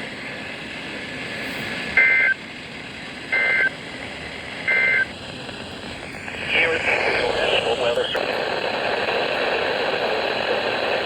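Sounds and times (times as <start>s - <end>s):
radio static hiss: 1.7s - 11.0s.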